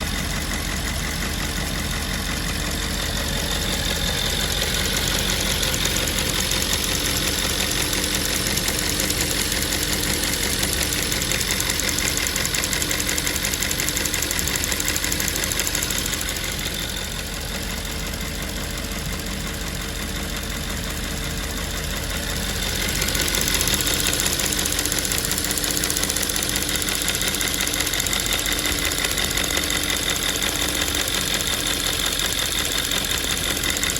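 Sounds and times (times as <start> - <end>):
car engine idling: 0.0 - 33.9
fast steady ticking: 0.0 - 33.9.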